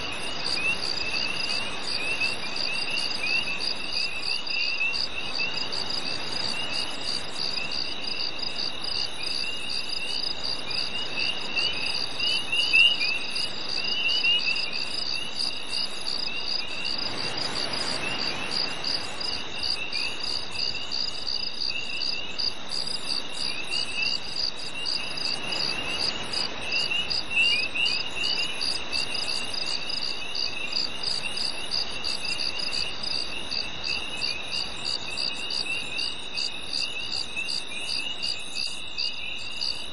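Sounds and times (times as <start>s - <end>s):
insects trilling: 0.0s - 39.9s
pulsing cricket chirp: 0.0s - 39.9s.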